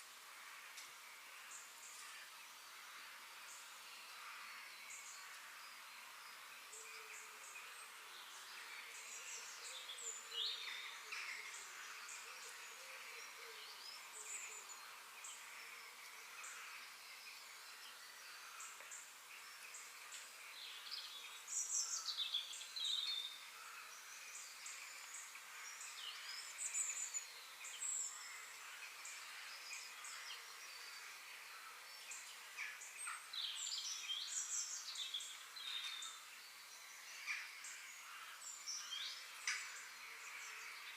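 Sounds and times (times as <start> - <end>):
faint outdoor hiss: 0.0 - 40.9
birds chirping: 0.7 - 40.9.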